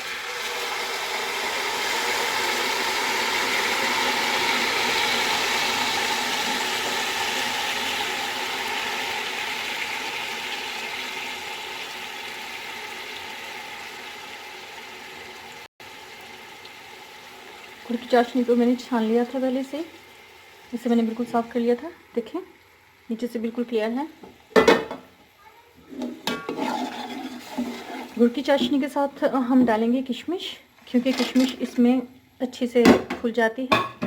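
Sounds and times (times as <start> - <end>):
syrup sizzling and bubbling in ghee: 0.0 - 24.6, 25.2 - 29.6.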